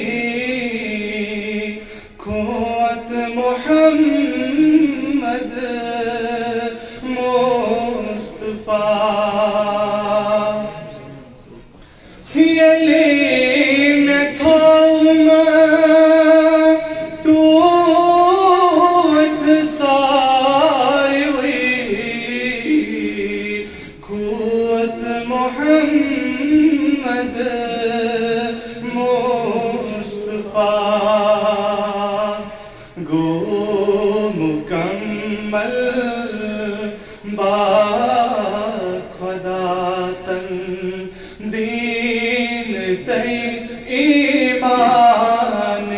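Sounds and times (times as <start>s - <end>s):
man chanting: 0.0s - 11.6s, 12.2s - 45.9s.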